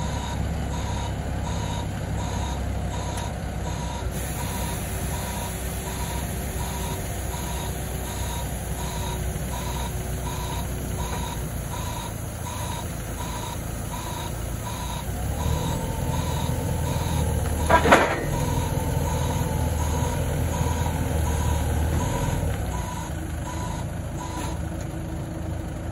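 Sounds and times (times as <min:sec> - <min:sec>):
reversing alarm beeping: 0:00.0 - 0:24.6
forklift engine running: 0:00.0 - 0:25.9.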